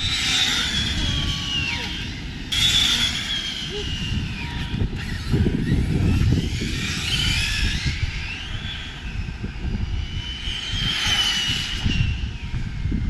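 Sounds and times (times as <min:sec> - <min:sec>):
electric motor whining: 0:00.0 - 0:13.0
wind rumbling on microphone: 0:00.0 - 0:13.0.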